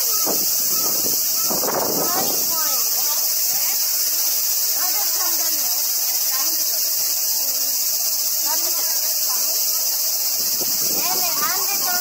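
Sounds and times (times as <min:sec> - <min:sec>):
faint voices: 0:00.0 - 0:12.0
insect chorus drone: 0:00.0 - 0:12.0.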